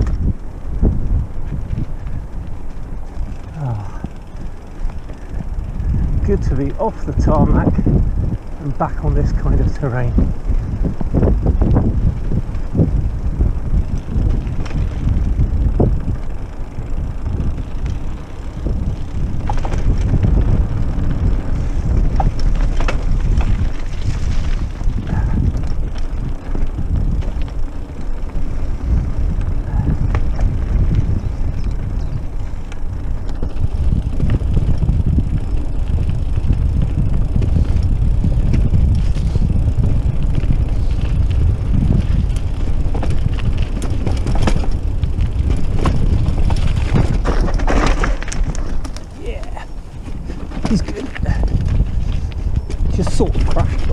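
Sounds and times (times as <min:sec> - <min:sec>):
bike rattling and knocking: 0:00.0 - 0:53.9
tyres rumbling on rough trail: 0:00.0 - 0:53.9.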